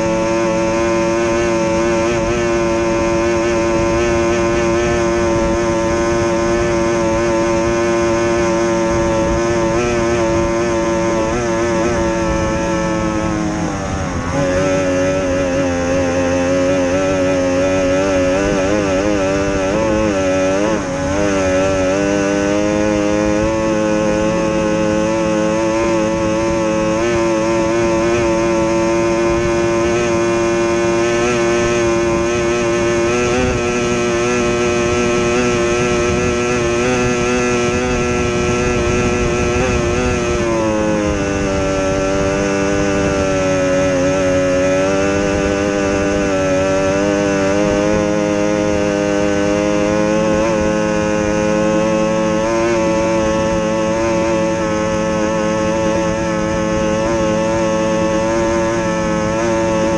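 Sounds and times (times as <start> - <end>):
outboard racing engine: 0.0 - 59.9
rushing wind: 0.0 - 59.9.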